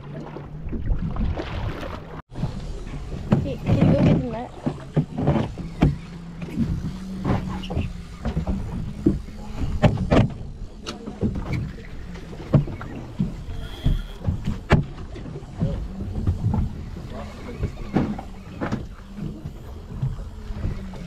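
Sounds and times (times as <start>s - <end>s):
water slapping against boat hull: 0.0s - 21.0s
steady low hum: 2.3s - 21.0s.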